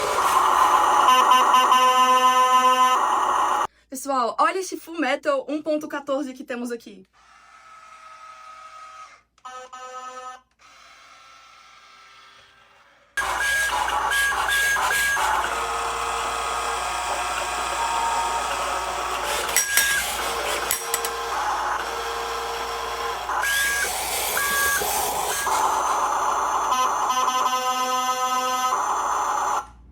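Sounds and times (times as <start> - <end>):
electric motors and gears whirring: 0.0 - 3.7, 7.2 - 29.9.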